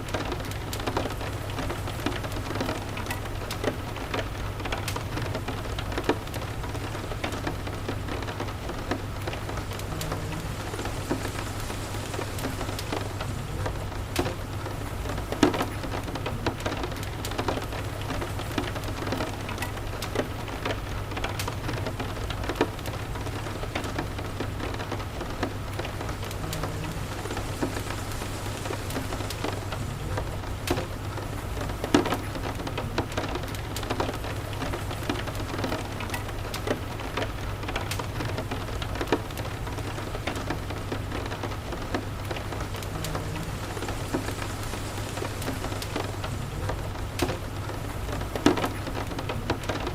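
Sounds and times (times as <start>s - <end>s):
steady rain hiss: 0.0s - 49.9s
wood fire crackling and popping: 0.1s - 49.9s.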